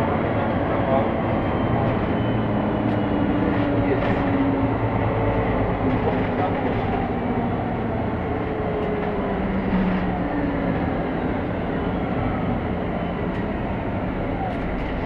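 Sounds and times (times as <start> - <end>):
diesel engine drone: 0.0 - 15.0
road and body rumble: 0.0 - 15.0.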